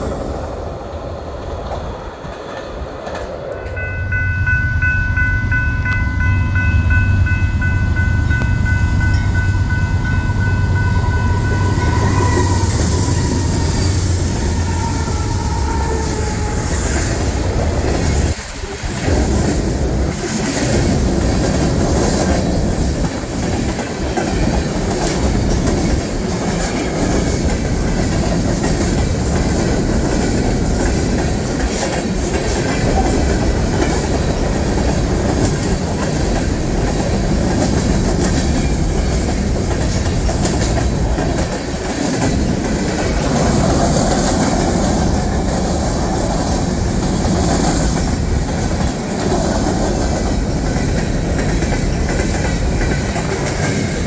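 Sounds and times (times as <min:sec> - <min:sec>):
train wheels clacking on rails: 0:05.5 - 0:54.0.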